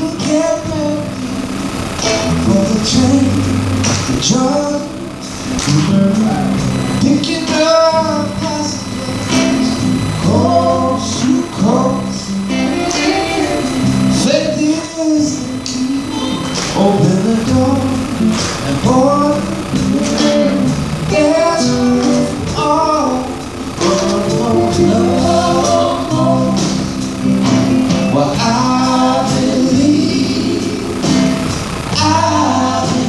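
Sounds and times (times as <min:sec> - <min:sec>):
drums playing: 0:00.0 - 0:33.0
electric bass: 0:00.0 - 0:33.0
electric guitar: 0:00.0 - 0:33.0
person singing: 0:02.3 - 0:27.1, 0:28.0 - 0:33.0.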